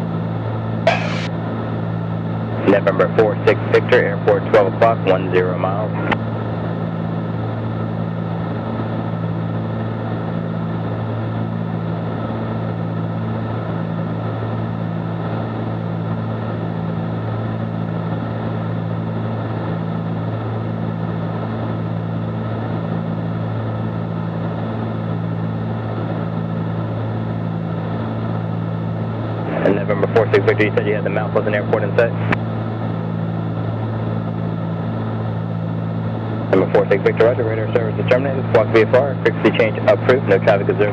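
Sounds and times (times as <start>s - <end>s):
aircraft cabin engine drone: 0.0s - 40.9s.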